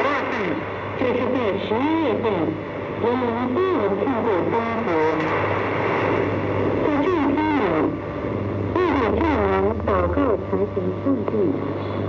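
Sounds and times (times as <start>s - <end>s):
low hum: 0.0s - 12.0s
static hiss: 0.0s - 12.0s.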